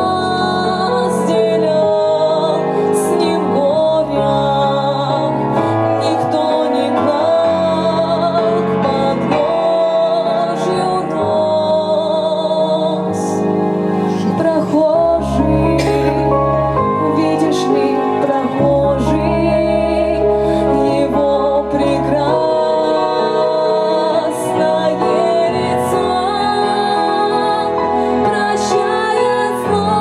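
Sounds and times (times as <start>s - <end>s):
woman singing a church song: 0.0s - 13.5s, 14.1s - 30.0s
instrumental backing music: 0.0s - 30.0s.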